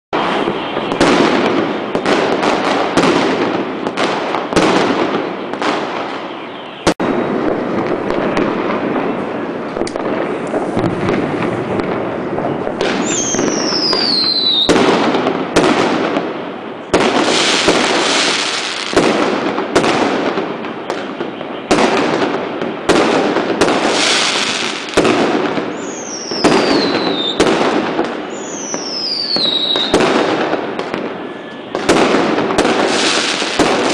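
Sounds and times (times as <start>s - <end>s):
fireworks crackling and banging: 0.1s - 33.9s
whistling firework: 0.2s - 33.9s.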